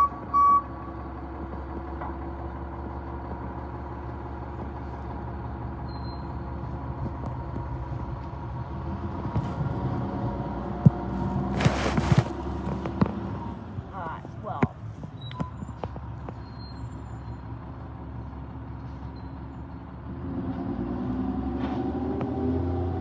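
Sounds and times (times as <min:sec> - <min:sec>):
garbage truck diesel engine: 0:00.0 - 0:23.0.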